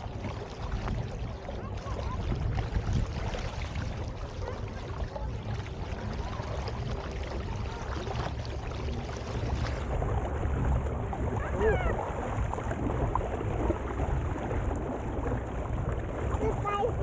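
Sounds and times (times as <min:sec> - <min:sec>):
water rushing along kayak hull: 0:00.0 - 0:17.0
wind rumble on microphone: 0:00.0 - 0:17.0.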